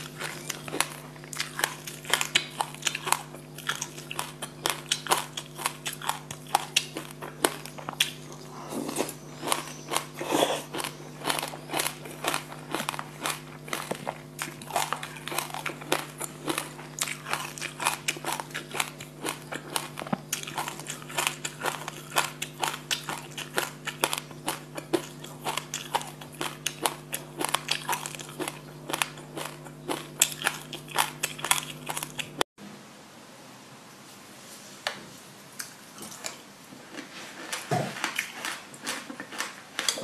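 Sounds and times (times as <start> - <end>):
crunchy chewing: 0.0 - 32.4, 35.6 - 40.0
steady low hum: 0.0 - 33.8.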